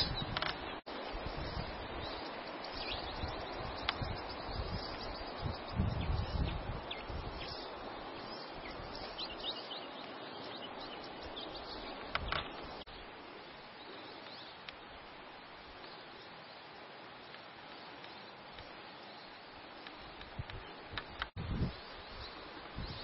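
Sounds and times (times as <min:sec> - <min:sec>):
small birds chirping: 0:00.0 - 0:23.0
steady rushing hiss: 0:00.0 - 0:23.0.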